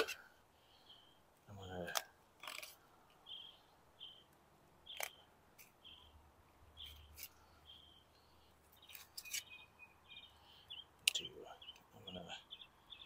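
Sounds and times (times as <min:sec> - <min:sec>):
small bird chirping: 0:00.7 - 0:13.0.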